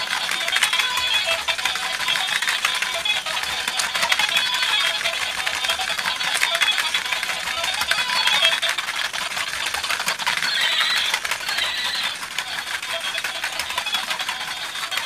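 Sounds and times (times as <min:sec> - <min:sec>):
toy gears clattering: 0:00.0 - 0:15.0.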